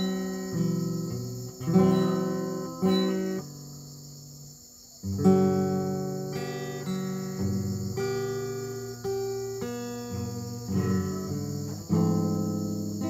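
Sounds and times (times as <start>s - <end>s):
acoustic guitar music: 0.0s - 13.0s
steady high-pitched hiss: 0.0s - 13.0s.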